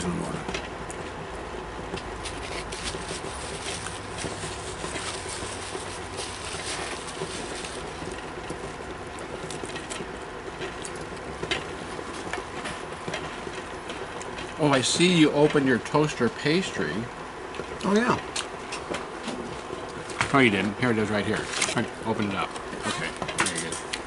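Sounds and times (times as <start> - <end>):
low background hum: 0.0 - 24.0
crackers crunching: 0.4 - 14.8, 17.6 - 24.0.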